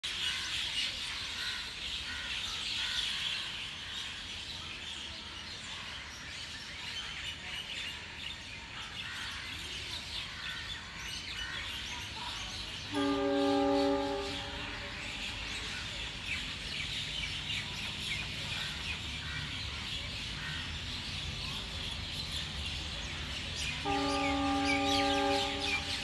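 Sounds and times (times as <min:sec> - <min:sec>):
flock of birds chirping: 0:00.0 - 0:26.0.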